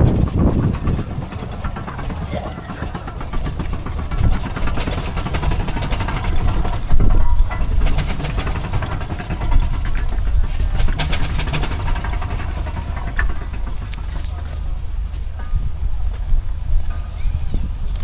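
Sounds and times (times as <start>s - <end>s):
steam engine running: 0.0s - 18.0s.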